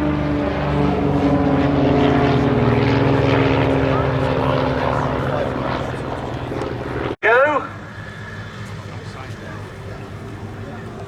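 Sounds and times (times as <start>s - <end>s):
light aircraft propeller drone: 0.0s - 11.0s.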